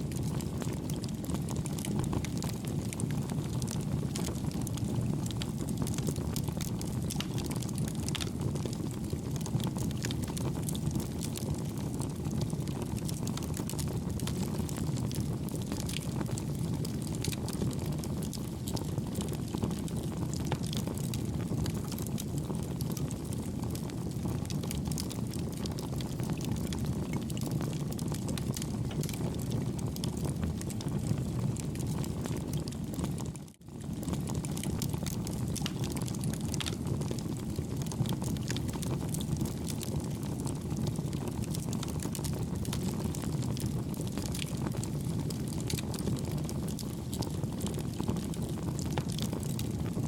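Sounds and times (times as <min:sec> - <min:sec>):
campfire burning: 0:00.0 - 0:50.0
low rumble of flames: 0:00.0 - 0:50.0.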